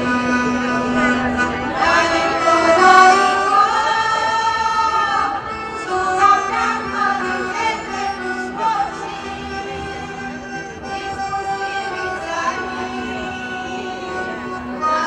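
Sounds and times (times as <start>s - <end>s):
accordion: 0.0s - 15.0s
women's choir singing: 0.9s - 15.0s.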